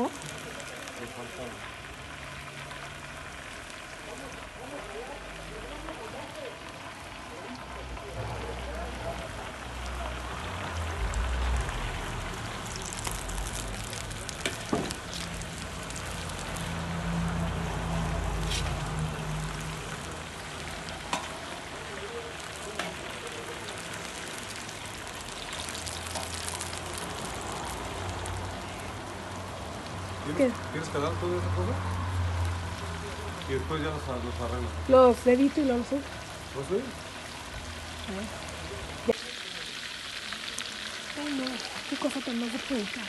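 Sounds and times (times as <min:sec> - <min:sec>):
hot oil bubbling and sizzling: 0:00.0 - 0:43.0.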